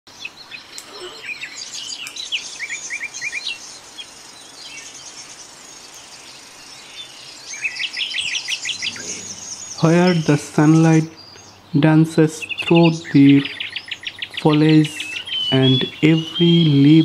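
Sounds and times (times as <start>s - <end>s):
small birds chirping and singing: 0.1s - 17.0s.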